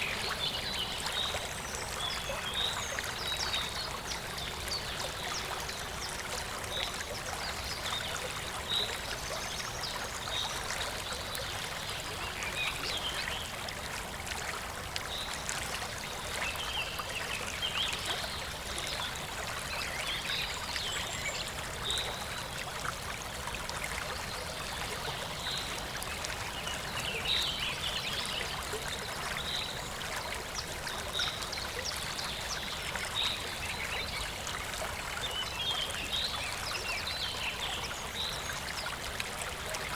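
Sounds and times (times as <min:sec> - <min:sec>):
shallow stream trickling: 0:00.0 - 0:39.9.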